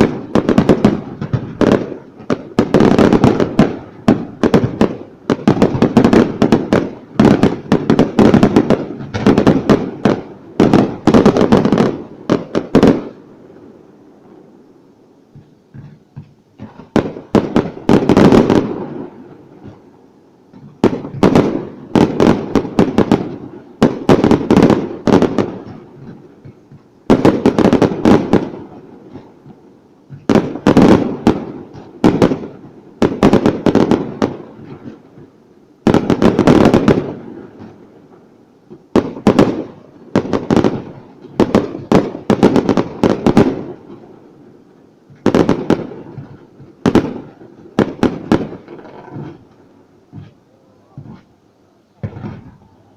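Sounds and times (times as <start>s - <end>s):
fireworks bursting with sharp bangs: 0.0s - 52.9s
rumbling echo of fireworks: 0.0s - 52.9s.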